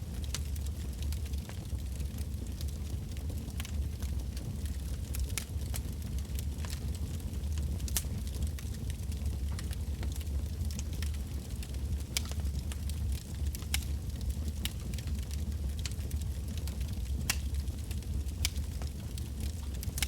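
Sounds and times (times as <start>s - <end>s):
wood bonfire crackling: 0.0s - 20.0s.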